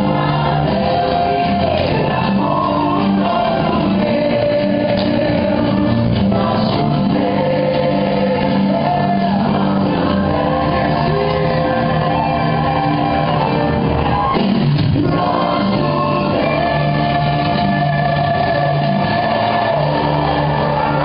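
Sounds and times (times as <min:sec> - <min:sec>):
gospel worship music with singing: 0:00.0 - 0:21.0
steady bass: 0:00.0 - 0:21.0.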